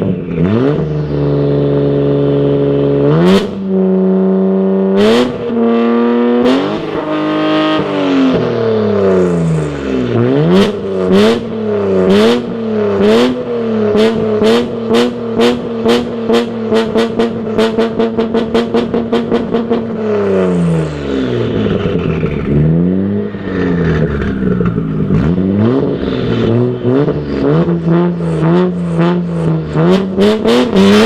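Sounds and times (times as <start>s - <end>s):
car engine revving: 0.0s - 31.0s
engine rev blips: 0.0s - 31.0s.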